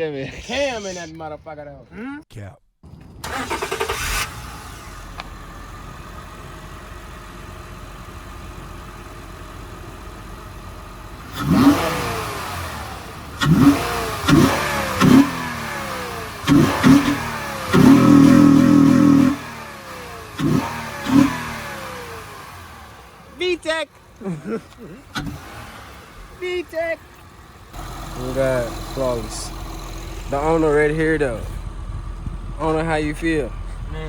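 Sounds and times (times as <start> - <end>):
car engine idling and revving: 2.8 - 34.0.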